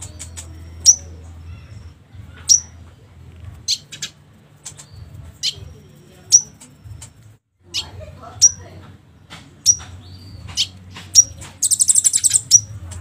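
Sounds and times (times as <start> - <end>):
bird chirping: 0.0 - 2.9, 3.6 - 13.0.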